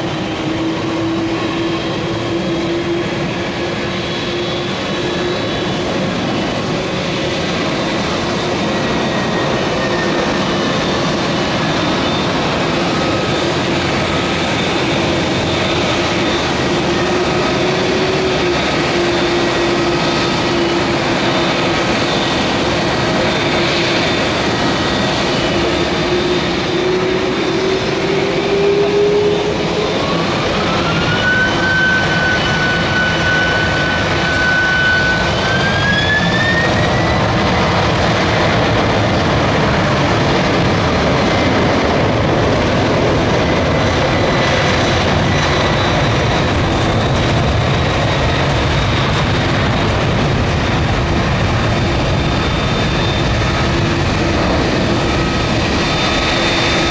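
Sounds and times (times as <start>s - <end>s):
jet engine whine climbing: 0.0s - 56.9s
jet engines rumbling: 0.0s - 56.9s.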